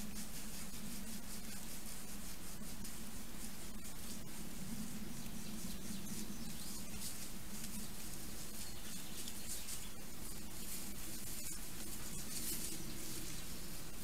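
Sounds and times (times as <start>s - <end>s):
rustling in leaf litter: 0.0s - 14.0s
steady hiss and low hum: 0.0s - 14.0s.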